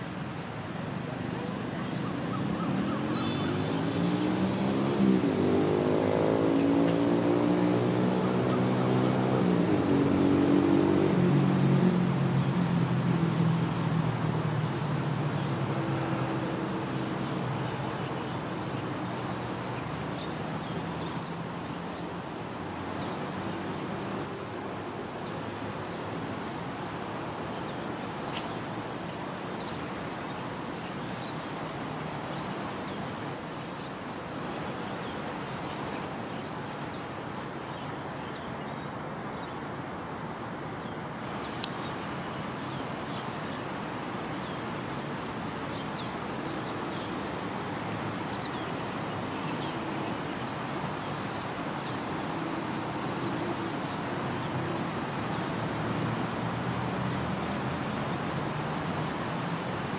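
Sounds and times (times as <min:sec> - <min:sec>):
insect drone: 0:00.0 - 0:59.9
road traffic hum: 0:00.0 - 0:59.9.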